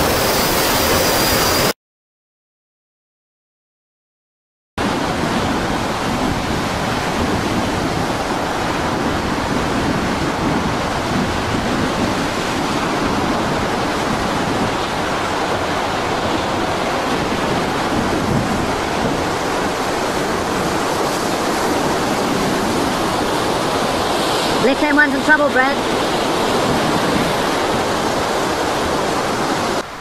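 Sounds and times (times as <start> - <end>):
storm surf breaking: 0.0 - 1.7, 4.8 - 30.0
wind: 0.0 - 1.7, 4.8 - 30.0.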